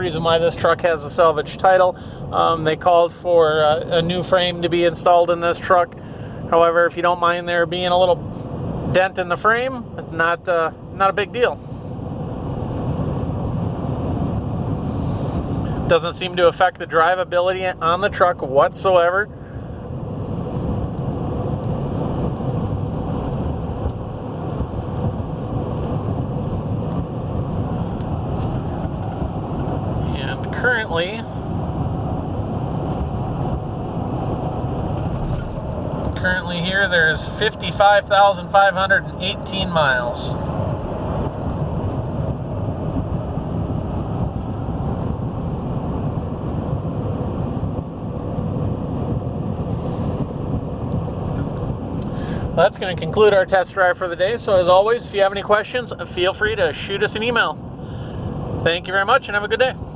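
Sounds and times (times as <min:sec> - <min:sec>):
pickup engine and road noise: 0:00.0 - 0:59.9
wind noise: 0:10.8 - 0:59.9.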